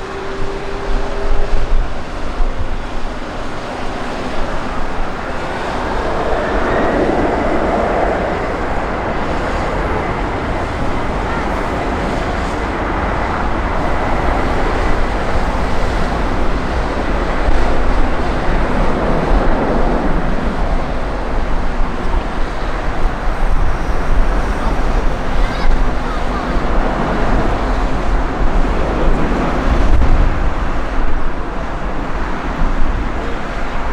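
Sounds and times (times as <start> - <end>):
faint high jet whine: 0.0 - 33.9
jet engine rumble: 0.0 - 33.9.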